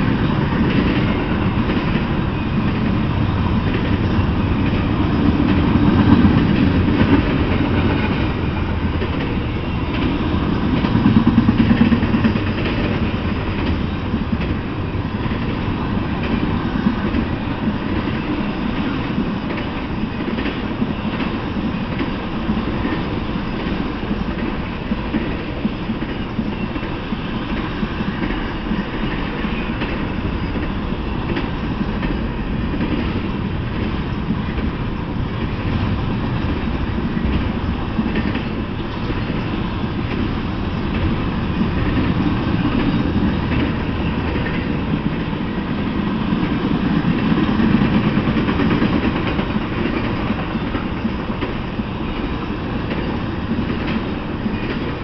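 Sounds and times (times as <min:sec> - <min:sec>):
steel train wheels on rail: 0:00.0 - 0:55.0.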